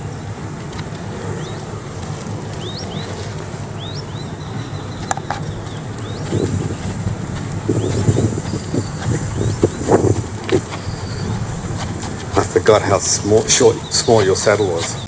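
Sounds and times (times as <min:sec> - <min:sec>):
horse hooves on sand: 0:00.0 - 0:15.0
small birds chirping: 0:00.0 - 0:15.0
steady low rumble: 0:00.0 - 0:15.0.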